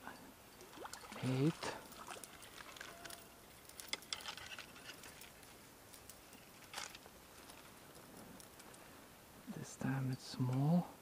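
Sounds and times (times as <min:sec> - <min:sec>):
faint steady hiss: 0:00.0 - 0:11.0
rustle: 0:00.0 - 0:11.0.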